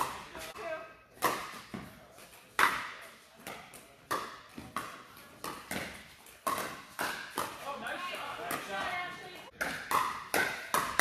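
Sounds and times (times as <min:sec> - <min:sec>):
paddles hitting plastic ball: 0:00.0 - 0:11.0.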